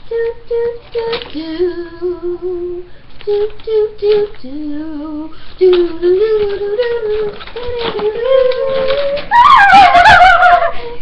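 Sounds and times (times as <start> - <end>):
young female voice singing: 0.0 - 10.0.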